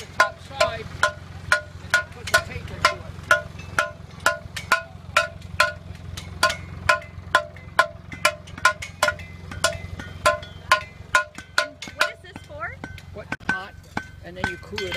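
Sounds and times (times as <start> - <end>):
hammer striking iron: 0.0 - 14.9
low hum: 0.0 - 14.9.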